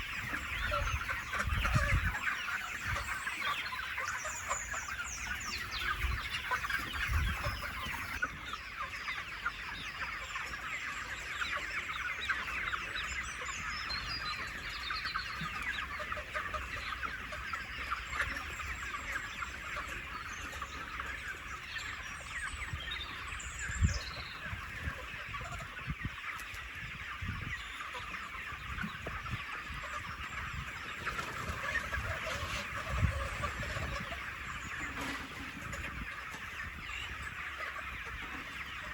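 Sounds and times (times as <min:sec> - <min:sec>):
chickens clucking and cheeping: 0:00.0 - 0:38.9.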